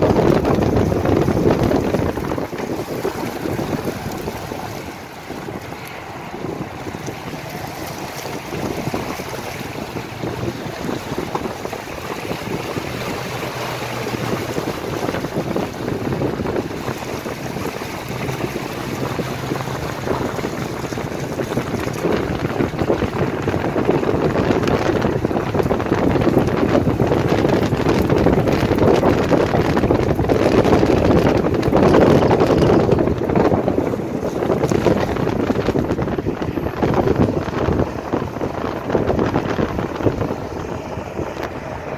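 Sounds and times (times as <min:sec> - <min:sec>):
train wheels rumbling on rails: 0:00.0 - 0:41.9
wind on microphone: 0:00.0 - 0:41.9.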